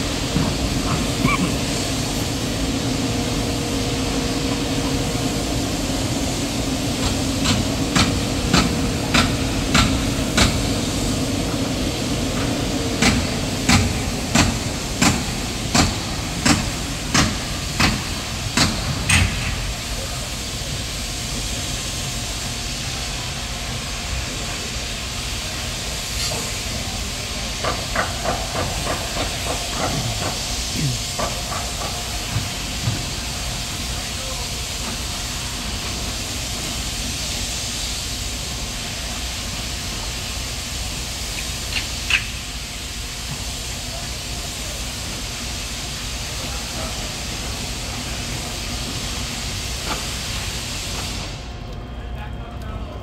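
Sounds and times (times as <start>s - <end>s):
hissing construction noise: 0.0s - 53.0s.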